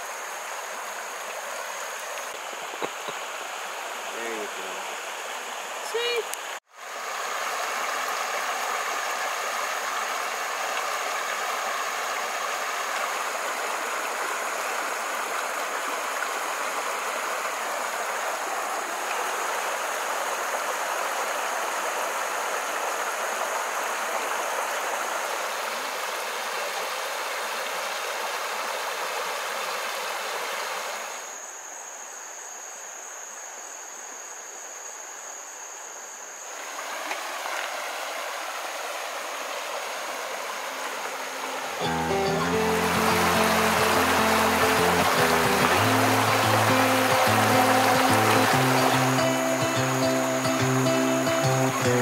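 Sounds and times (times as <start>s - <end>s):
creek water rushing: 0.0s - 31.2s, 36.5s - 52.0s.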